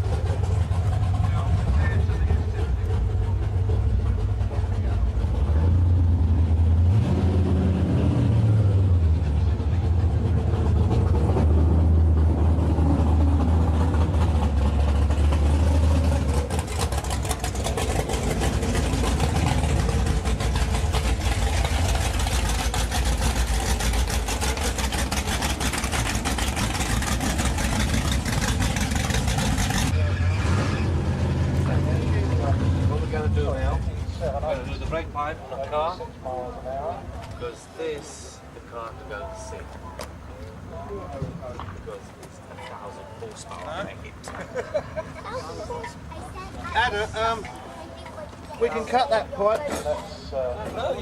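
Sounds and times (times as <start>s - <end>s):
drag racing car engines revving: 0.0s - 51.0s.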